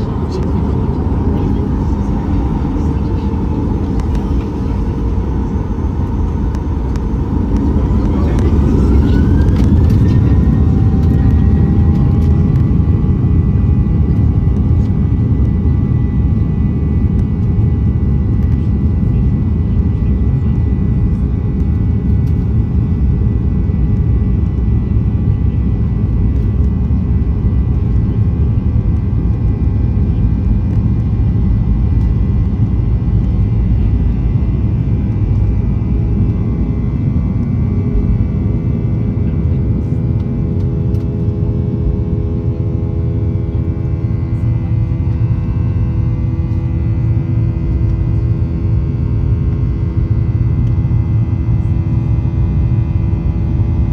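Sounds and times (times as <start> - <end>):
jet engine roar with whine: 0.0 - 53.9.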